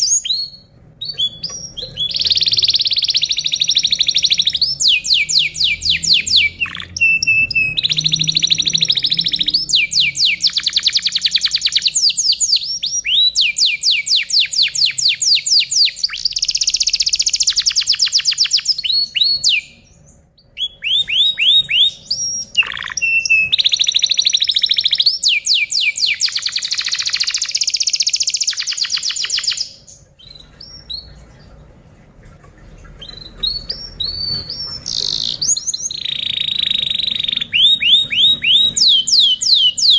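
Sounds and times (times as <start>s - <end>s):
canary singing trills: 0.0s - 31.6s, 32.9s - 39.9s.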